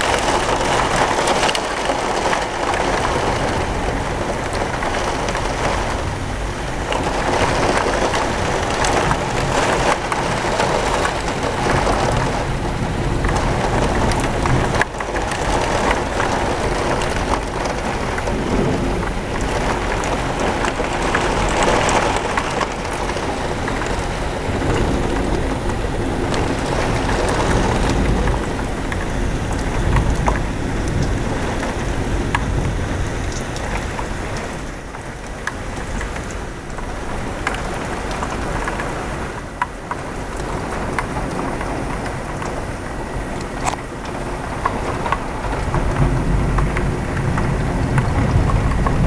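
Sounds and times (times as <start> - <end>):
heavy rain pouring: 0.0 - 49.0
thunder rumbling: 0.0 - 49.0.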